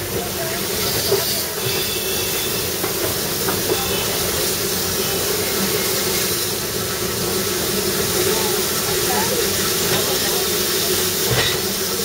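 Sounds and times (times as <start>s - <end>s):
train running with hissing rush: 0.0s - 12.0s.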